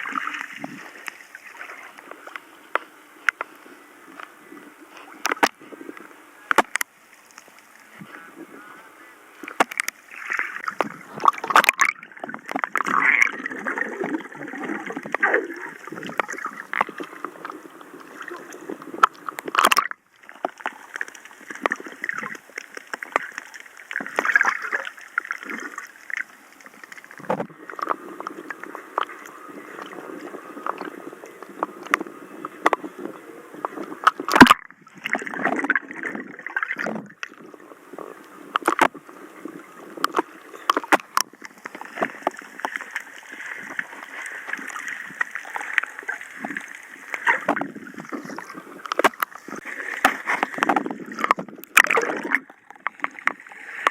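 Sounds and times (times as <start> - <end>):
small clicks and splashes: 0.0 - 3.6, 4.9 - 5.6, 6.5 - 7.9, 9.4 - 30.0, 30.6 - 32.9, 33.6 - 39.0, 40.0 - 53.9
water sloshing and gurgling: 0.0 - 53.9.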